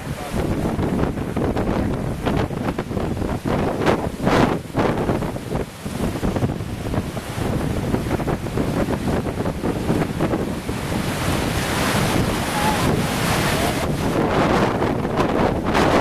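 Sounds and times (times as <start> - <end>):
gusty wind buffeting microphone: 0.0 - 16.0.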